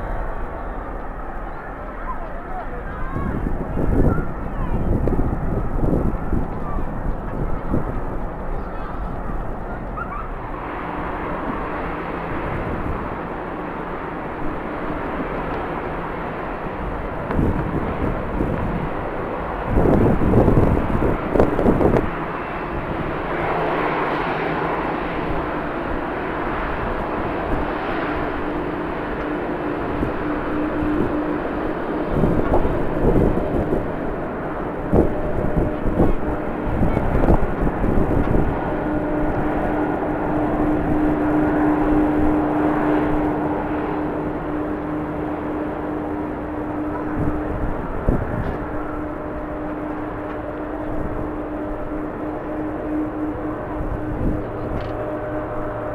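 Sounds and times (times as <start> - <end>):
faint steady hum: 0.0 - 55.9
jet engines roaring: 0.0 - 55.9
wind buffeting microphone: 0.0 - 55.9.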